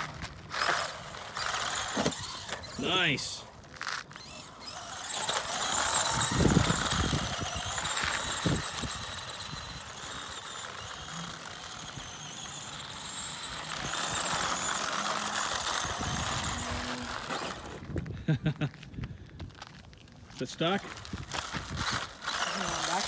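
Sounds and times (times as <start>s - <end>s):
toy truck electric motor whining: 0.0s - 18.1s, 20.5s - 23.0s
tires on gravel: 0.0s - 23.0s.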